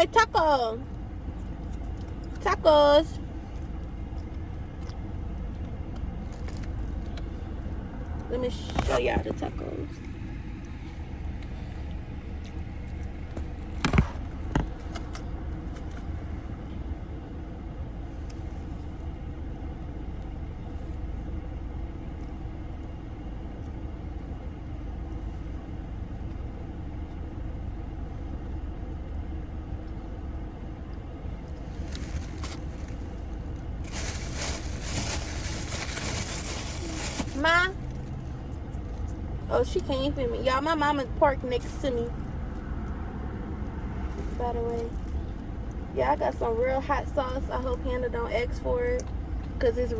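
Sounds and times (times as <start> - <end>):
car engine idling in cabin: 0.0 - 49.9.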